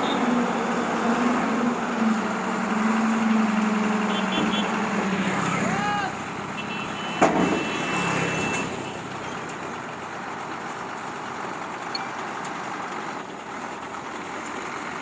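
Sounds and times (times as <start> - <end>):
heavy construction vehicle running: 0.0 - 15.0.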